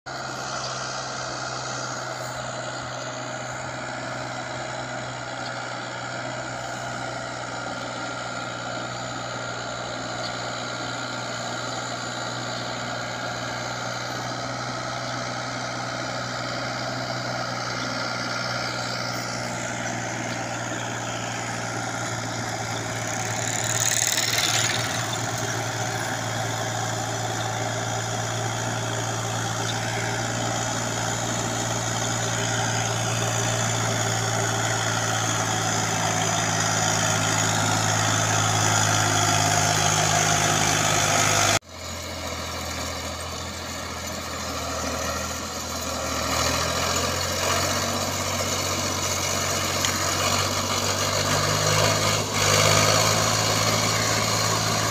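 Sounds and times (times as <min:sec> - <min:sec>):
tractor engine running: 0:00.1 - 0:54.9.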